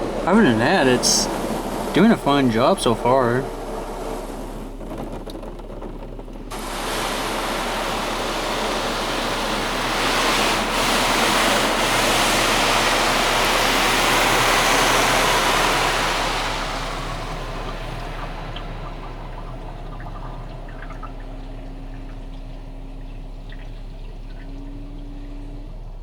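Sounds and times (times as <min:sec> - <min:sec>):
car wash spraying water: 0:00.0 - 0:26.0.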